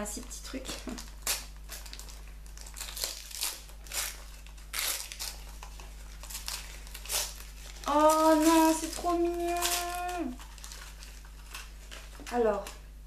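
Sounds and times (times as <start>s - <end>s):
gift-wrap paper crinkling and tearing: 0.4s - 12.9s.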